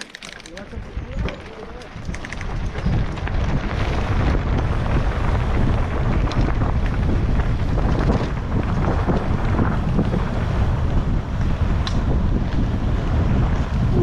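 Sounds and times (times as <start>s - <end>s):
bike knocks and rattles: 0.0s - 13.8s
tyres rolling on dirt and stones: 0.0s - 13.9s
wind buffeting microphone: 0.0s - 14.0s.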